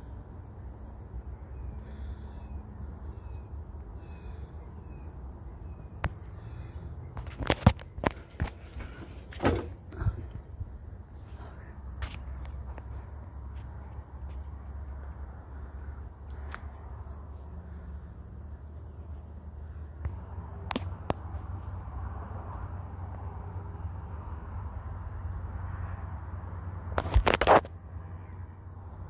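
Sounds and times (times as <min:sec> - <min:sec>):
high-pitched insect trill: 0:00.0 - 0:29.0.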